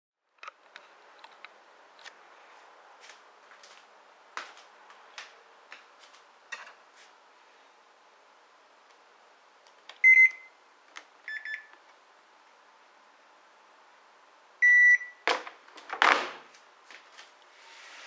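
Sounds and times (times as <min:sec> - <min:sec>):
faint room noise: 0:00.2 - 0:18.0.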